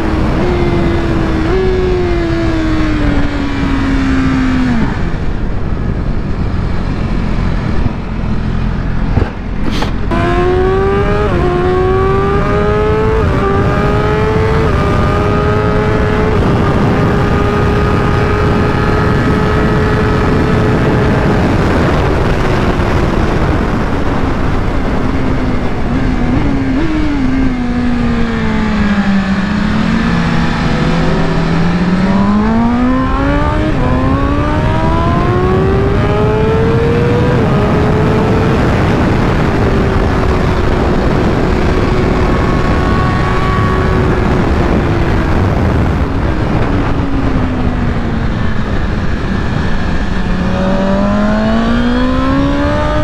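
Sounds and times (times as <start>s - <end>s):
motorcycle engine revving: 0.0s - 53.0s
wind rush: 0.0s - 53.0s.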